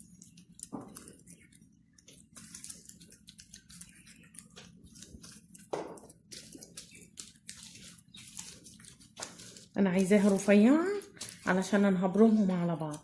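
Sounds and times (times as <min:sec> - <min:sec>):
hands rubbing dough on a board: 0:00.0 - 0:13.0.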